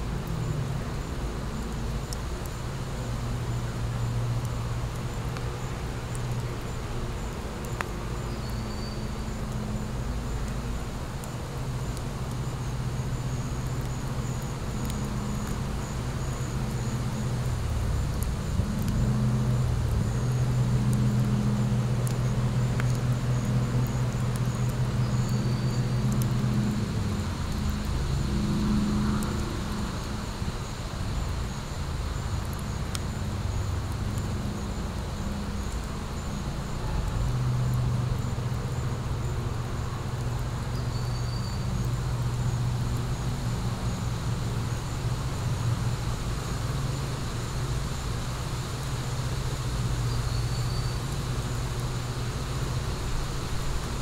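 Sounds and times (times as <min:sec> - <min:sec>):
fire crackling and popping: 0:00.0 - 0:50.3
road traffic drone: 0:00.0 - 0:54.0.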